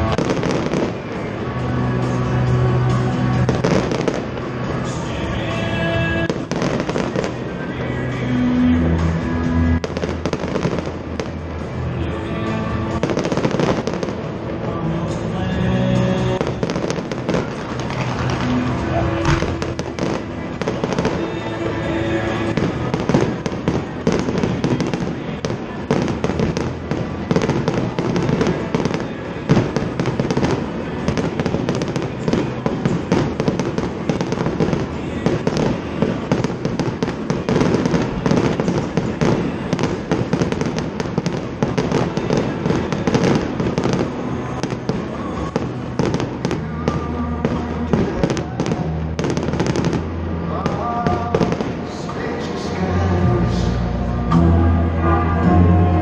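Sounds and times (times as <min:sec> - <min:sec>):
fireworks bangs and crackles: 0:00.0 - 0:53.7.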